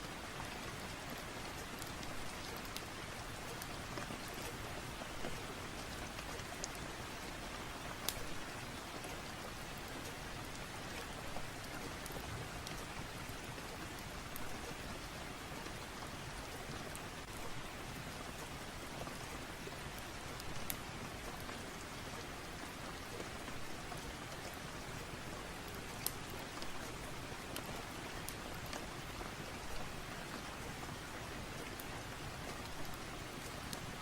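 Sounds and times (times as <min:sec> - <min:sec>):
steady rain: 0:00.0 - 0:34.0
wood fire crackling: 0:00.4 - 0:21.8, 0:22.6 - 0:34.0.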